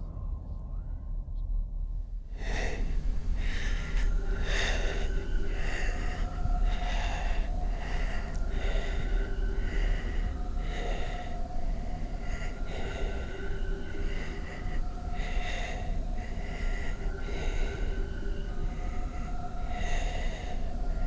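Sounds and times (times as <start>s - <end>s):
steady low rumble: 0.0s - 21.0s
man breathing heavily: 2.3s - 21.0s.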